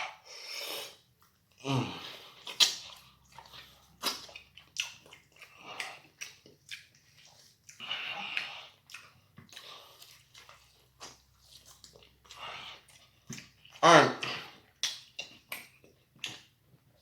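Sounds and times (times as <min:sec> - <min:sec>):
wet chewing and lip smacking: 0:02.4 - 0:13.8, 0:14.6 - 0:17.0.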